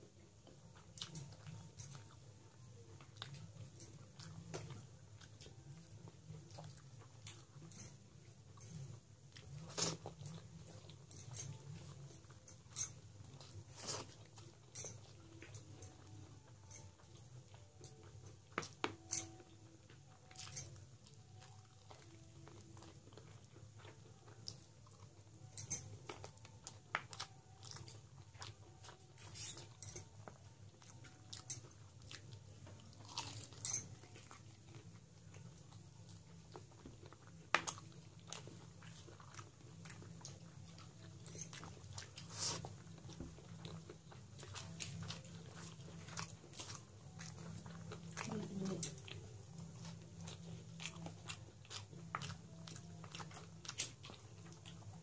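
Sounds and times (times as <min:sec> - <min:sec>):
chewing and mouth smacks: 0:00.4 - 0:07.6, 0:08.7 - 0:55.0.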